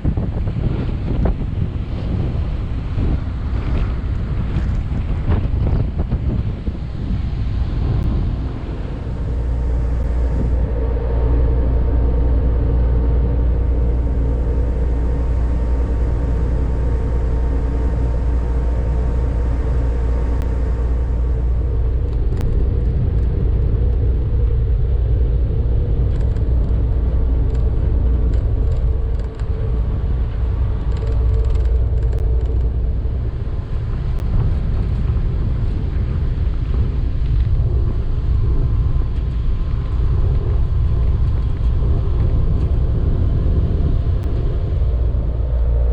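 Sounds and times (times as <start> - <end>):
constant hum: 0.0 - 45.9
ferry engines rumbling: 0.0 - 45.9.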